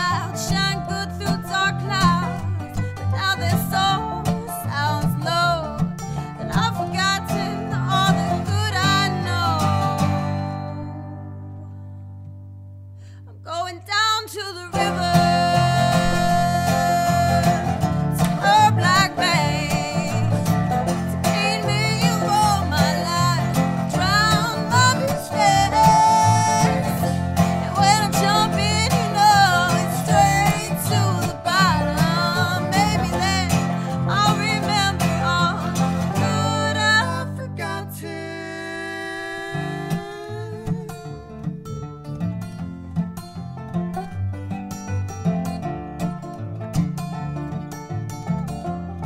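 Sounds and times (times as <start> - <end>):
acoustic string band playing: 0.0 - 11.5, 14.8 - 49.0.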